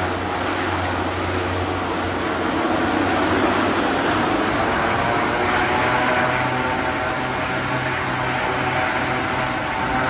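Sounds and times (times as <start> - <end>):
turboprop engines running: 0.0 - 10.0.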